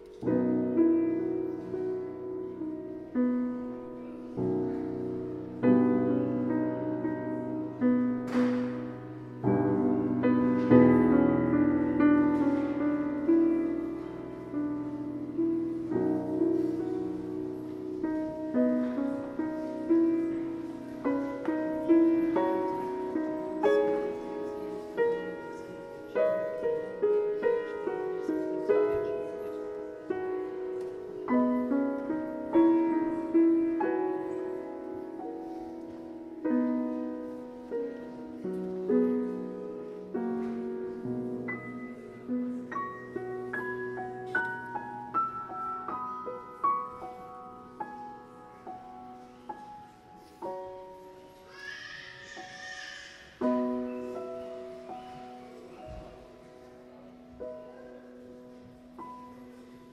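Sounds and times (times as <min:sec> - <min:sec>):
slow solo piano hymn: 0:00.0 - 0:59.9.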